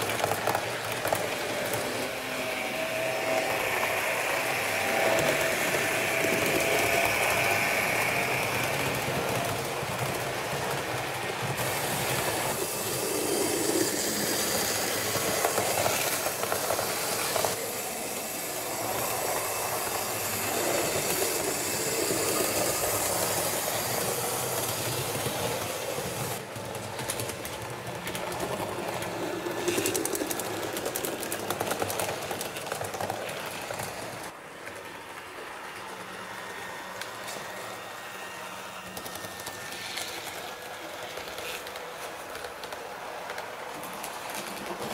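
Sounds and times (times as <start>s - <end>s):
model train running on track: 0.0s - 44.9s.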